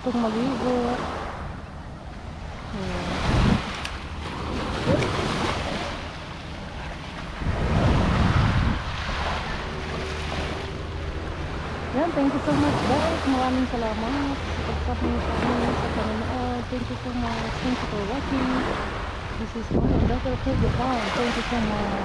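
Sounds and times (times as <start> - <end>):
wind gusting on microphone: 0.0 - 22.0.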